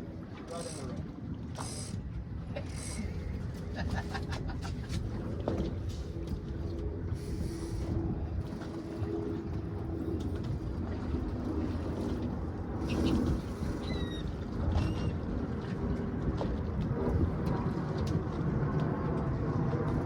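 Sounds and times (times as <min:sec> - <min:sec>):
boat engine running: 0:00.0 - 0:20.0
water noise: 0:00.0 - 0:20.0
wind: 0:00.0 - 0:20.0.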